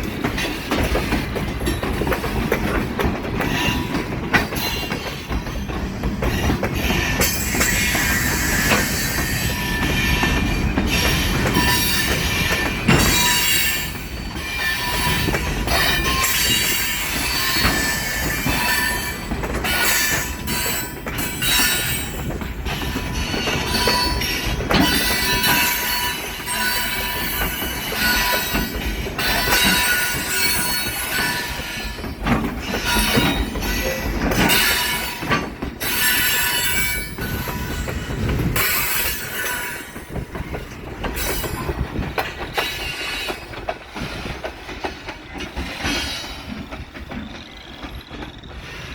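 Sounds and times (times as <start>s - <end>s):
clanks and clicks from train cars: 0.0s - 48.9s
train wheels squealing on rails: 0.0s - 48.9s.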